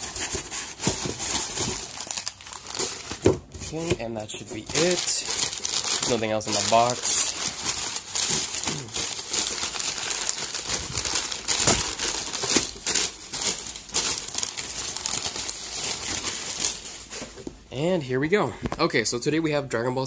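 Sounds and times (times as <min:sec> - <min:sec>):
paper crumpling and rustling: 0:00.0 - 0:17.5.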